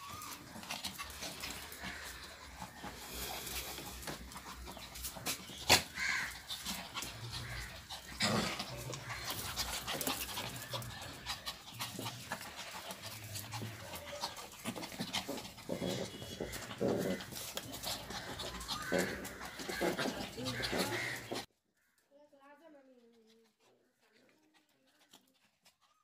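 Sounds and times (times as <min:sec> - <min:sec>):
puppies scuffling: 0:00.0 - 0:21.5.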